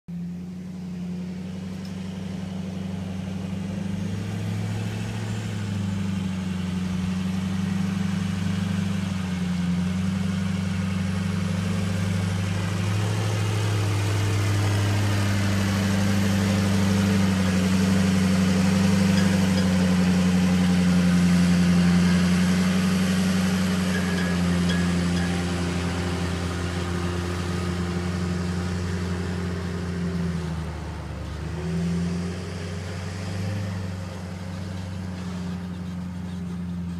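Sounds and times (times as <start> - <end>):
truck engine running: 0.1 - 36.9.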